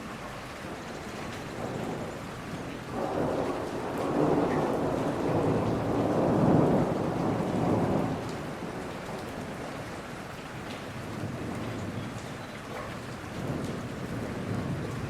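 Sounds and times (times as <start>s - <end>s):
steady rain falling: 0.0s - 15.0s
low rumble of thunder: 0.7s - 15.0s.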